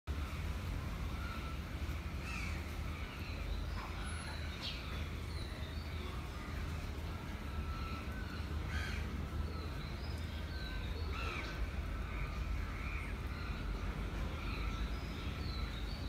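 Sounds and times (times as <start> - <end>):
birds calling and chirping: 0.1 - 16.0.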